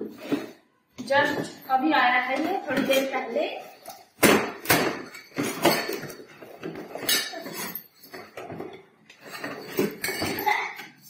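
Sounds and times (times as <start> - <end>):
knocks and clinks of parts: 0.0 - 11.0.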